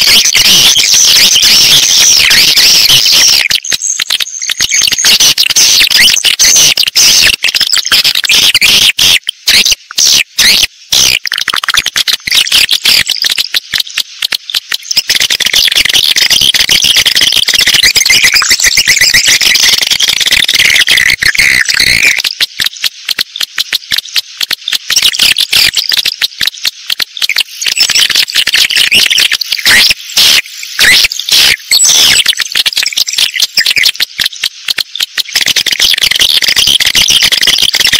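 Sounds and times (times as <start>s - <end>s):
swiftlets twittering: 0.0s - 37.9s.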